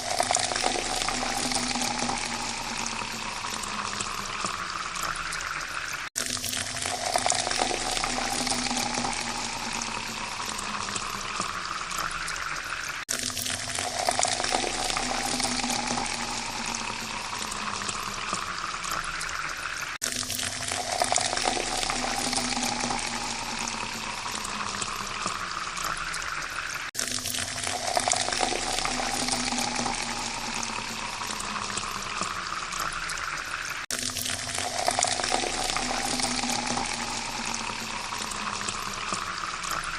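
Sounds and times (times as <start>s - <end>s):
water pouring into a glass: 0.0s - 39.9s.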